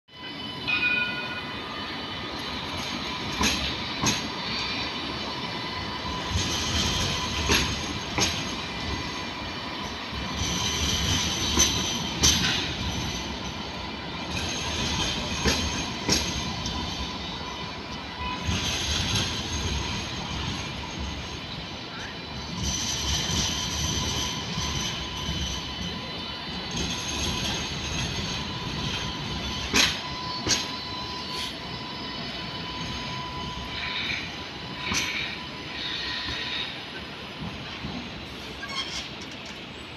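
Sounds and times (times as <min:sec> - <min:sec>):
tram rolling noise: 0:00.1 - 0:39.9
high wheel squeal: 0:00.2 - 0:39.3
tram wheels clicking on rails: 0:02.2 - 0:39.9.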